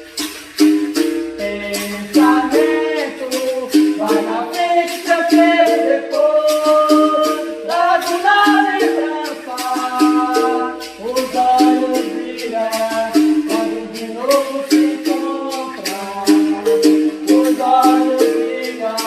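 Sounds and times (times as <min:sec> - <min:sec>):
berimbau notes: 0:00.0 - 0:19.0
shaker rattling: 0:00.0 - 0:19.0
voices singing: 0:00.0 - 0:19.0.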